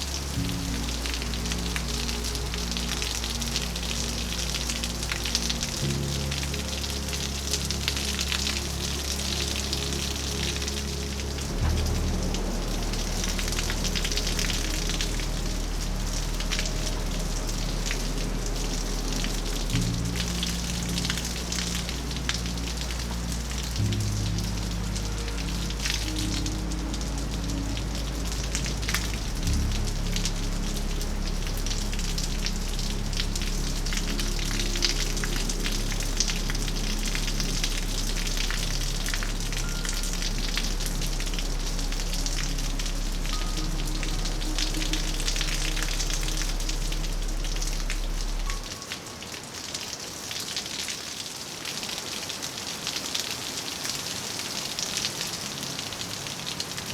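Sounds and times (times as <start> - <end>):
soft background music: 0.0 - 50.8, 51.6 - 56.9
steady rain falling: 0.0 - 56.9.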